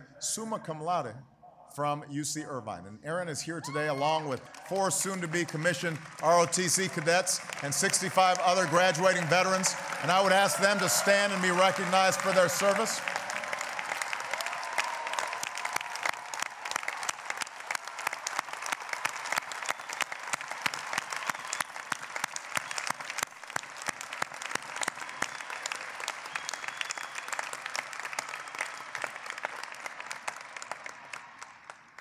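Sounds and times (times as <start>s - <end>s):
crowd applauding: 3.7s - 32.0s.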